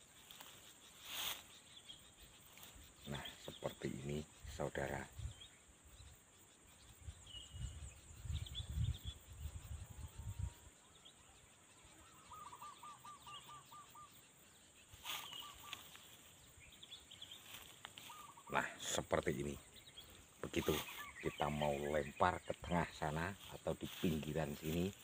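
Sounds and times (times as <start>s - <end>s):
birds calling: 0.0s - 25.0s
high insect drone: 0.0s - 25.0s.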